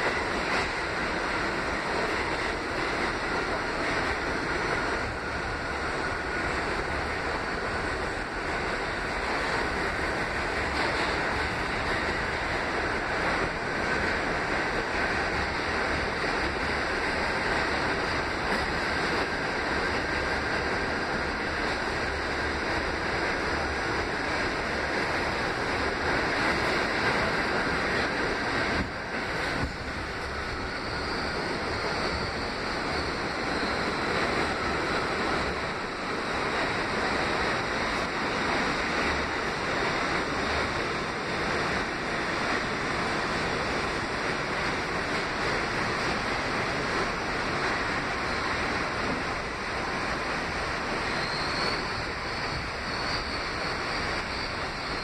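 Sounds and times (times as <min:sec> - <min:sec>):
subway car running on track: 0:00.0 - 0:55.0.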